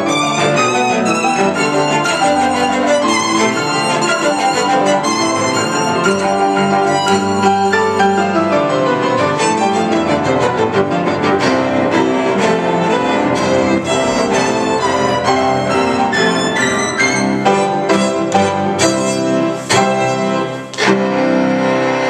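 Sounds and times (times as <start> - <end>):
cello bowing: 0.0 - 22.0
piano playing: 0.0 - 22.0
violin bowing: 0.0 - 22.0.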